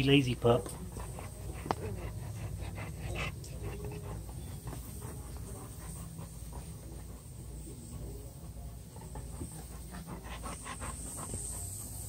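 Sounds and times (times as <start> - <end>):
puppies panting: 0.0 - 12.0.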